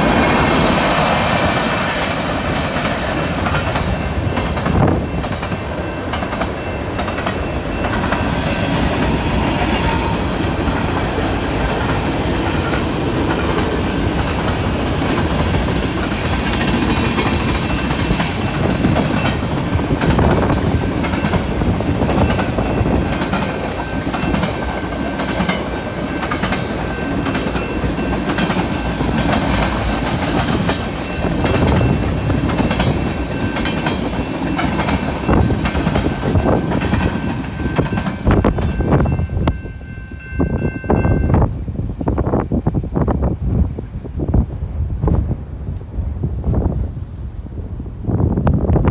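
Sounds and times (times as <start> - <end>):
high tones from wheels on rails: 0.0 - 43.8
freight train rumbling past: 0.0 - 48.9.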